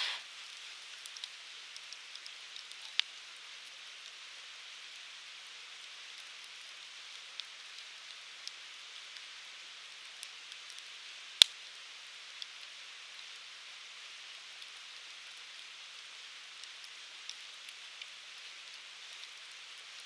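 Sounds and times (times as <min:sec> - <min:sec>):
firewood burning hiss and crackles: 0:00.0 - 0:20.0.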